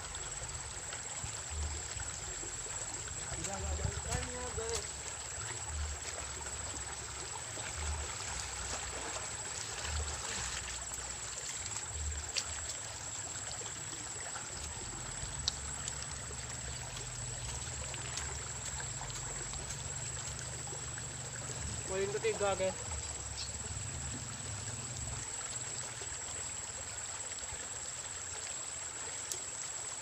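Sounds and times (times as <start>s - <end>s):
river water trickling: 0.0s - 30.0s.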